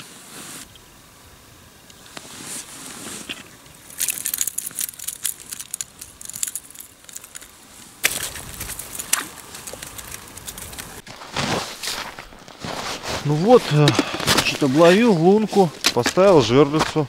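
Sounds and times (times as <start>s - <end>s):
snow crunching and crackling: 2.1s - 17.0s.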